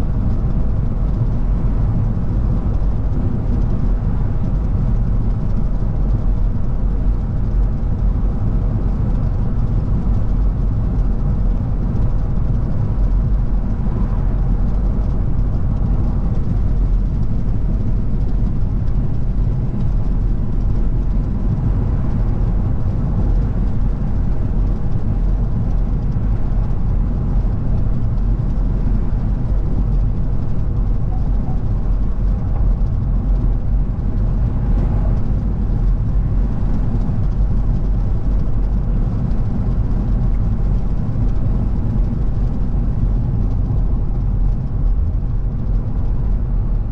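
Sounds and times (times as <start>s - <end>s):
car engine running: 0.0s - 46.9s
tyre and road noise: 0.0s - 46.9s.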